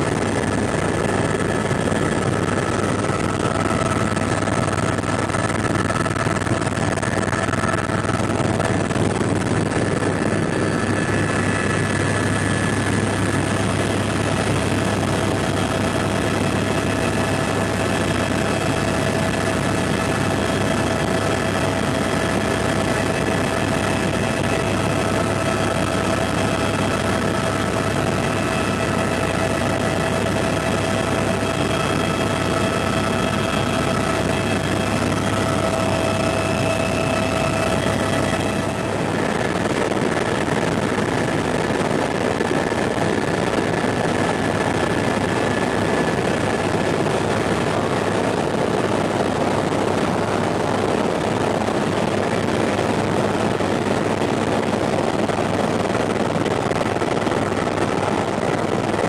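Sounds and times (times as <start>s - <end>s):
helicopter cabin rotor rush: 0.0s - 59.0s
high turbine whine: 0.0s - 59.0s.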